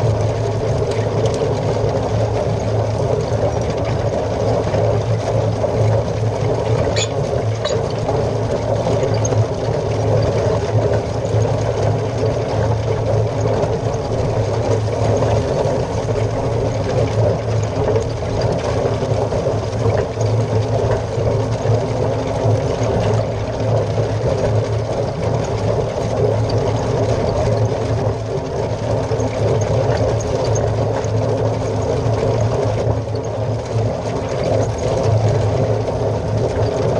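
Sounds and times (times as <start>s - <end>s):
hay rake rotors droning: 0.0s - 36.9s
tractor engine running: 0.0s - 36.9s.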